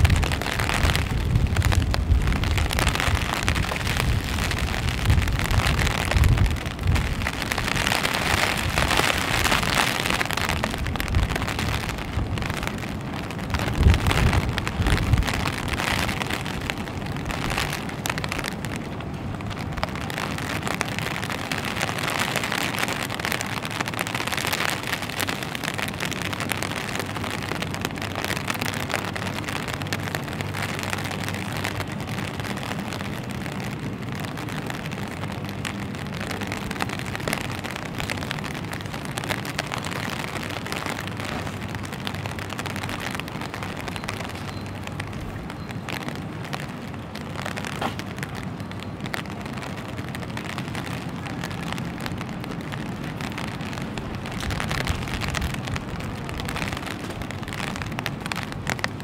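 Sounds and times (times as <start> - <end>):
low rumbles: 0.0 - 59.0
rain spattering on wet street: 0.0 - 59.0.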